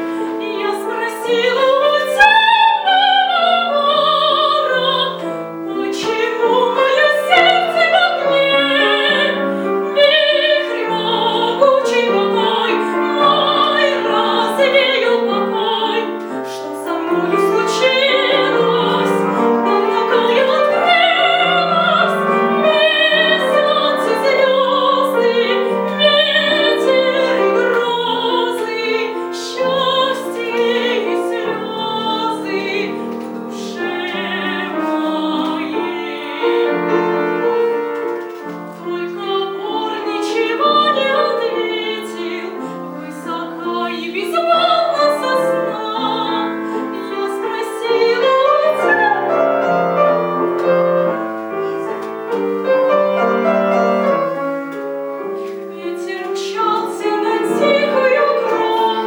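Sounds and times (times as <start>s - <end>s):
piano: 0.0s - 59.0s
woman singing classical style: 0.0s - 59.0s.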